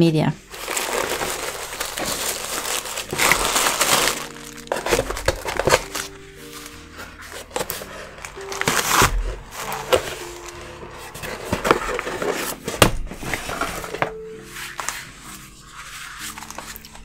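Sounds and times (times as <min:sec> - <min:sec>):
soft background music: 0:00.0 - 0:17.0
cardboard scraping rustle: 0:00.5 - 0:17.0.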